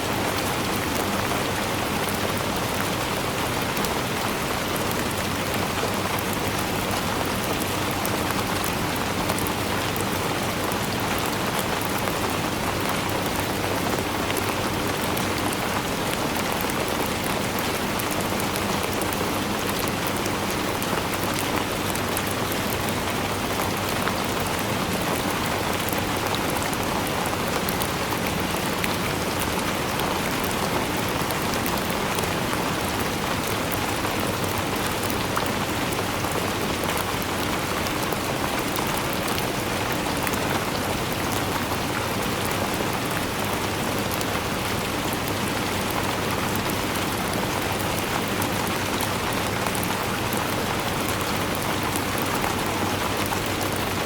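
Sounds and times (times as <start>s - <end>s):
rain hitting a surface: 0.0s - 54.0s.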